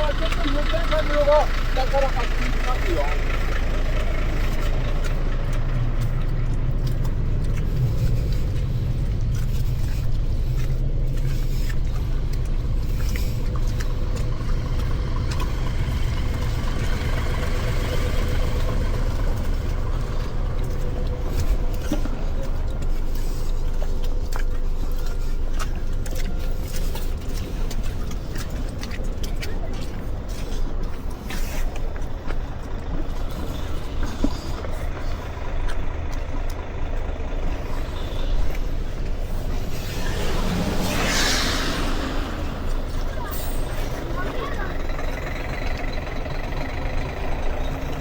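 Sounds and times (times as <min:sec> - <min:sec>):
road noise: 0:00.0 - 0:48.0
vehicle engine rumble: 0:00.0 - 0:48.0.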